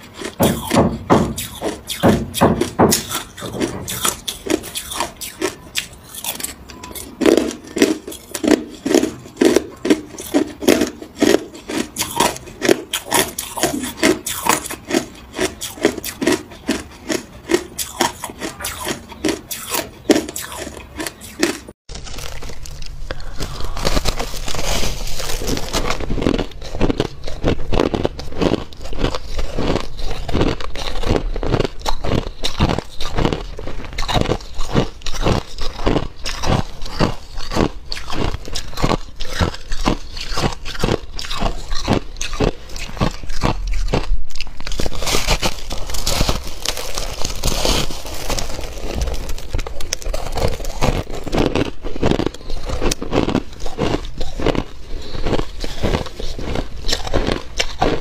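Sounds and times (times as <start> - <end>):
ice cubes crunched between teeth: 1.4 - 58.0.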